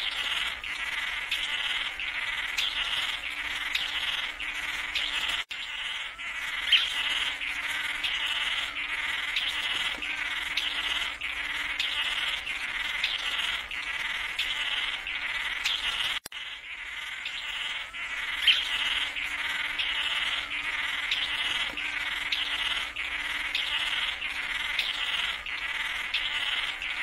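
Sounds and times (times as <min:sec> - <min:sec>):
buzzy nasal bird calls: 0:00.0 - 0:27.0.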